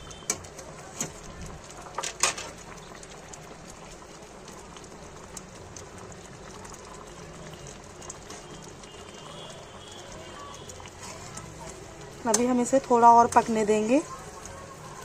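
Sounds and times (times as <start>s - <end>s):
syrup boiling and bubbling: 0.0s - 15.0s.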